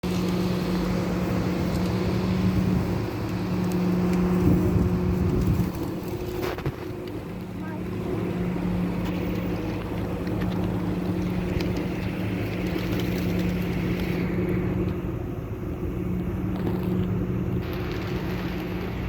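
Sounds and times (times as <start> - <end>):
steady engine drone: 0.0 - 19.0
wash of noise: 0.0 - 19.0.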